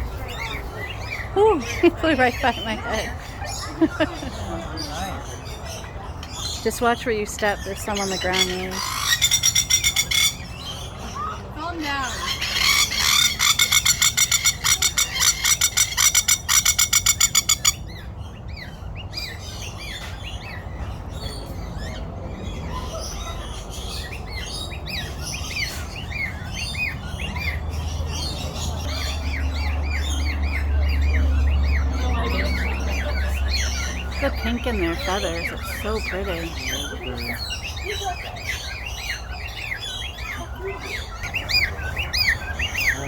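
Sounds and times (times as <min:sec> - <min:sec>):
birds chirping and chattering: 0:00.0 - 0:43.0
birds squawking harshly: 0:00.2 - 0:43.0.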